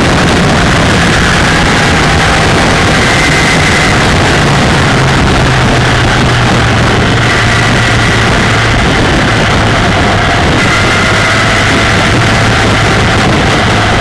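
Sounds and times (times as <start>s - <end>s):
motorcycle engine droning: 0.0s - 14.0s
wind noise over camera: 0.0s - 14.0s.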